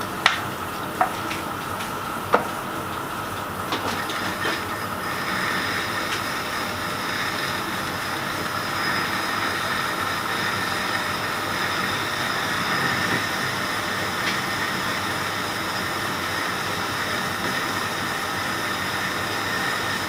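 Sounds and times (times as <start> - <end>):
metal lathe cutting: 3.1 - 20.0.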